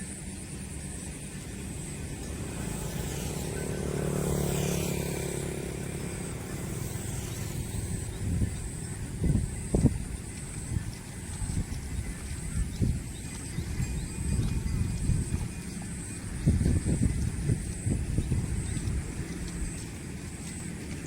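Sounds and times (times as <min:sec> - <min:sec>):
vehicle engine passing by: 0:00.2 - 0:21.0.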